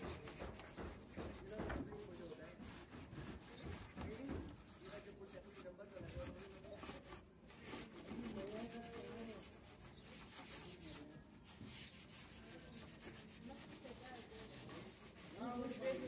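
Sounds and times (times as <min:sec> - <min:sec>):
cloth rubbing on wood: 0:00.0 - 0:16.0.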